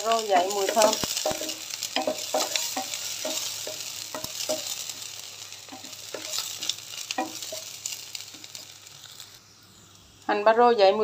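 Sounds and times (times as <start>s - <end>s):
wooden spatula scraping a pan: 0.0s - 9.2s
leek sizzling in hot oil: 0.0s - 11.0s.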